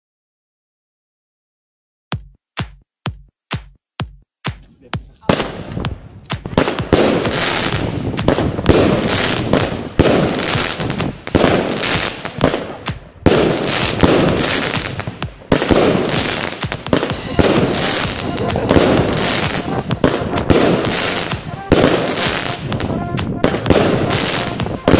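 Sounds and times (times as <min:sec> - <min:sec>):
noisy hiss: 0:04.4 - 0:24.9
fireworks shells bursting: 0:04.5 - 0:24.9.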